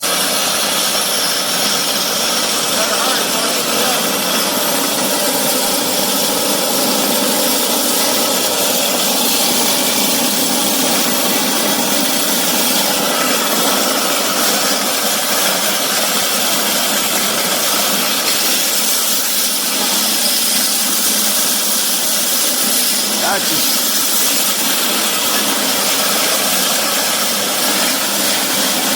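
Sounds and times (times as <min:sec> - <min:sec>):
electric grain mill grinding: 0:00.0 - 0:28.9.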